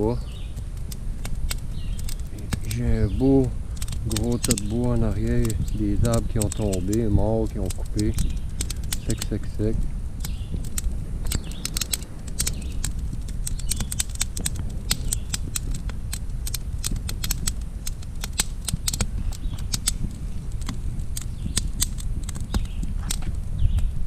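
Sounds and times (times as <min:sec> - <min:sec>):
campfire crackling and snapping: 0:00.0 - 0:24.0.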